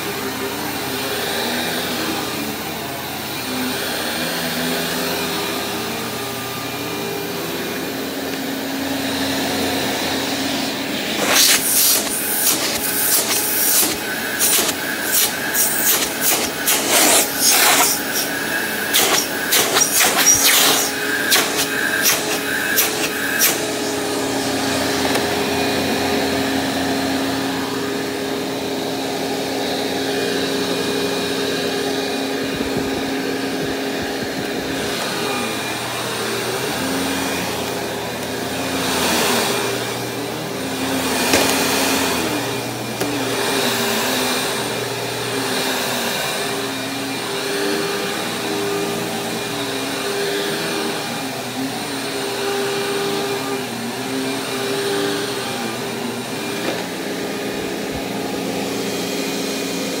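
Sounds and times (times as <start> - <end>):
vacuum cleaner running on carpet: 0.0 - 60.0.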